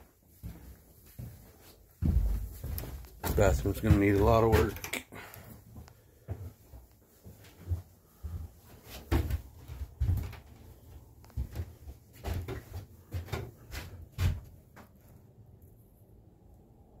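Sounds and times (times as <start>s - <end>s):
footsteps on wooden floor: 0.4s - 4.8s, 5.5s - 15.0s.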